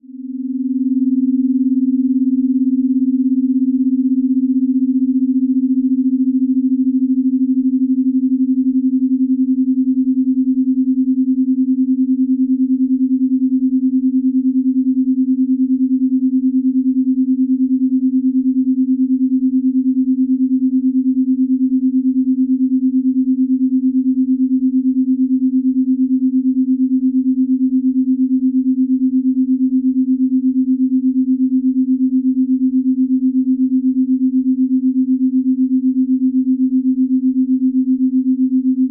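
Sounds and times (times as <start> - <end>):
low wavering sine tone: 0.0 - 38.9.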